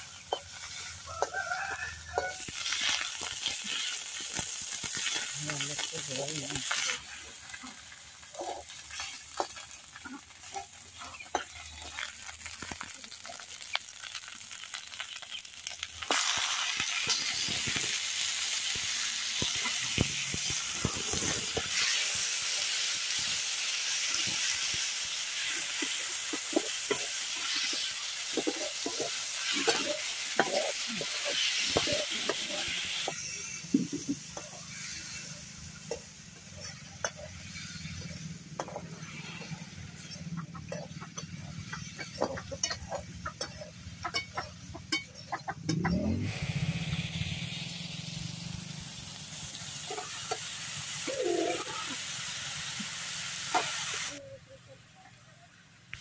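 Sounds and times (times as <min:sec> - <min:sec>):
meat sizzling in metal pan: 0:00.0 - 0:54.2.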